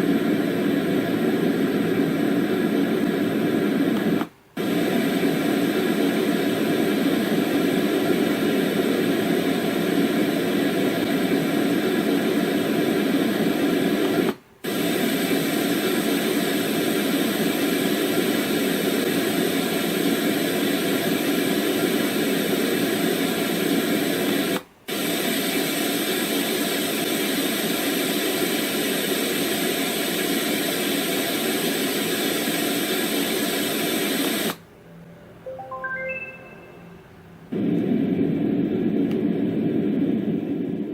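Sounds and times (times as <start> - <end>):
white noise machine hiss: 0.0 - 40.9.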